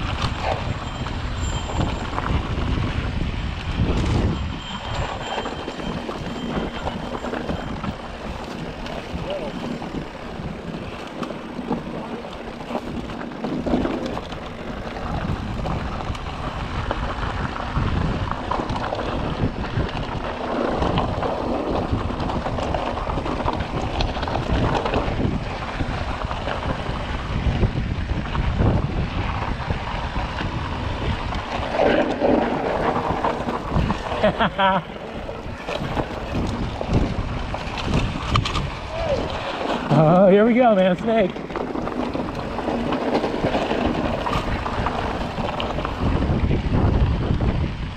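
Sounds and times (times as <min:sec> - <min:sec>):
bike knocks and rattles: 0:00.0 - 0:47.8
bike rolling over rocks: 0:00.0 - 0:47.9
wind buffeting microphone: 0:00.0 - 0:47.9.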